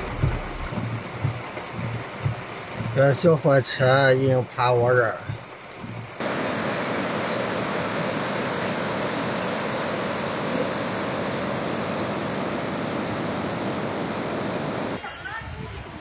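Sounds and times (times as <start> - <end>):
floodwater rushing: 0.0 - 15.4.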